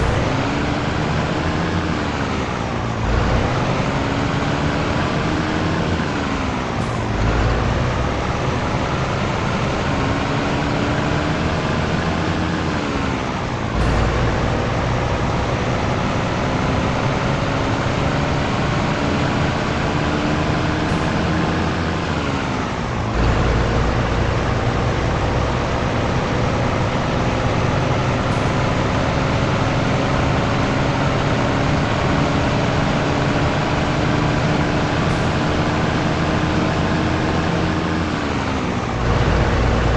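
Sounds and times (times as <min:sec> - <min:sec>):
diesel truck engine accelerating: 0:00.0 - 0:39.9.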